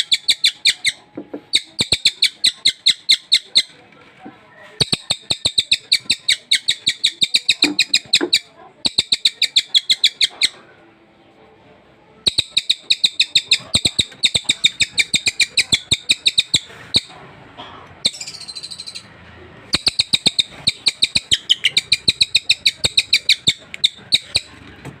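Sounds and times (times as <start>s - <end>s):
bird singing rapid notes: 0.0s - 3.8s, 4.8s - 10.6s, 12.2s - 17.1s, 18.0s - 19.1s, 19.7s - 24.6s.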